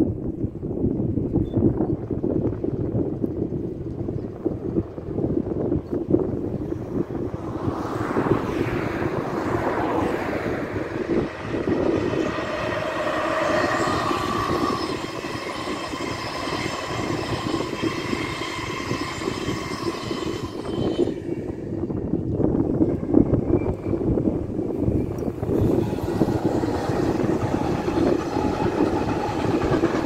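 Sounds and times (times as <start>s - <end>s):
train wheels rumbling on rails: 0.0s - 30.0s
high steady whines: 5.8s - 30.0s.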